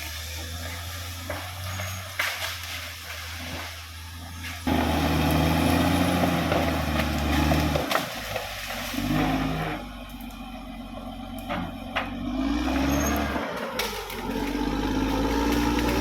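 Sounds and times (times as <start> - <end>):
bulldozer diesel engine: 0.0 - 16.0.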